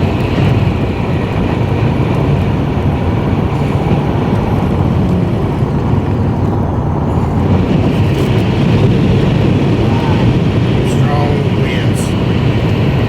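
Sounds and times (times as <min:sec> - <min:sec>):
vehicle interior road rumble: 0:00.0 - 0:13.0.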